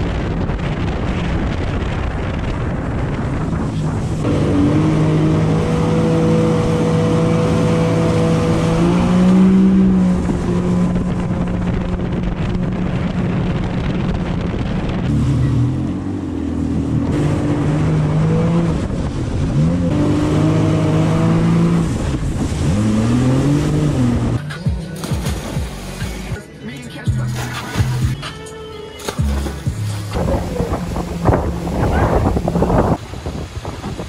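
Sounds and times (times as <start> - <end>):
jet ski engine running: 0.0 - 34.0
water and wind rushing: 0.0 - 34.0.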